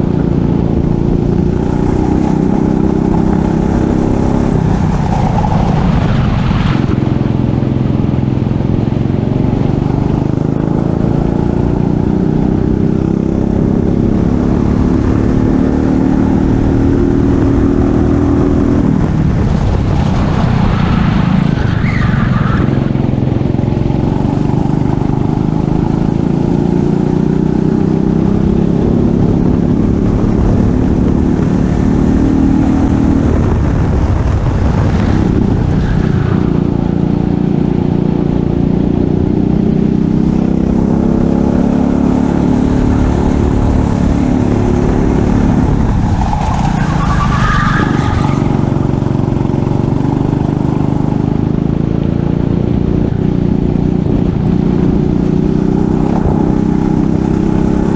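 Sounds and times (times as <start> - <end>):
kart engine at full throttle: 0.0 - 57.9
wind rumble on microphone: 0.0 - 57.9.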